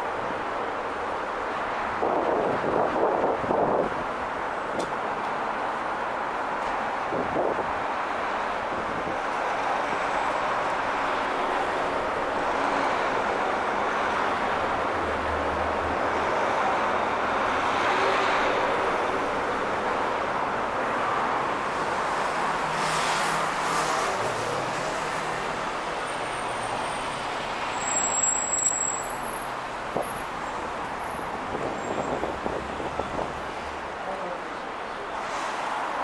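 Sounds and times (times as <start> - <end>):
passing cars rushing: 0.0 - 36.0.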